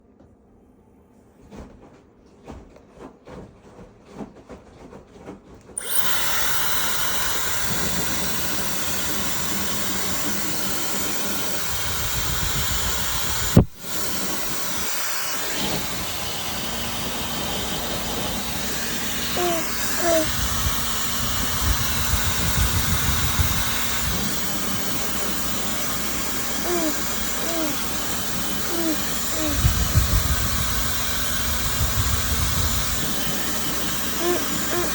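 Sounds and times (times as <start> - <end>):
hair dryer blowing: 5.8 - 34.9.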